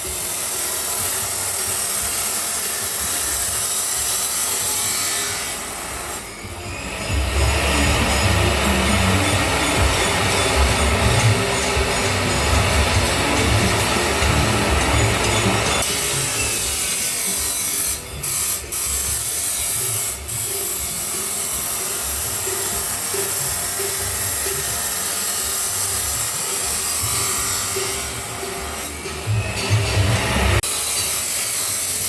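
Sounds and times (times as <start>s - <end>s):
angle grinder cutting metal pipe: 0.0s - 32.0s.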